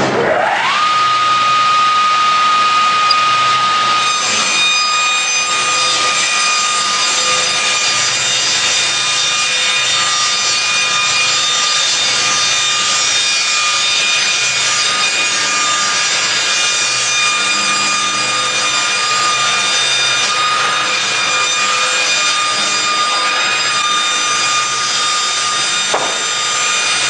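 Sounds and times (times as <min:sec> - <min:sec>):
circular saw sawing wood: 0:00.0 - 0:27.0.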